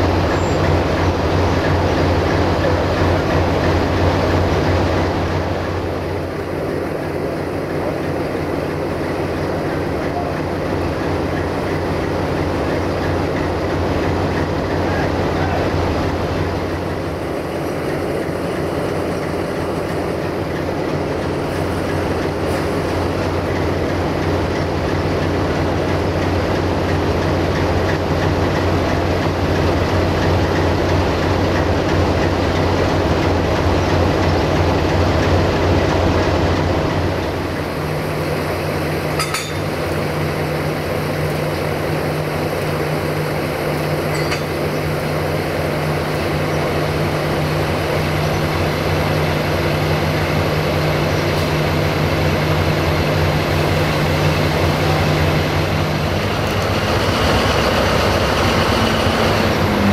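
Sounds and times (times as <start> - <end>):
locomotive engine running: 0.0 - 59.9.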